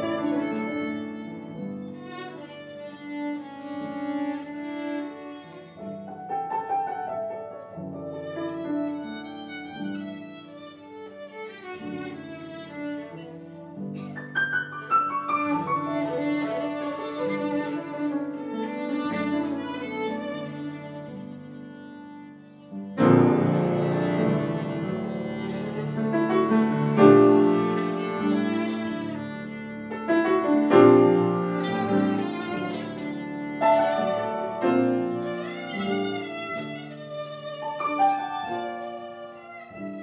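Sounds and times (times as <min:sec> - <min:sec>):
piano chords: 0:00.0 - 0:40.0
violin bowing: 0:00.0 - 0:40.0.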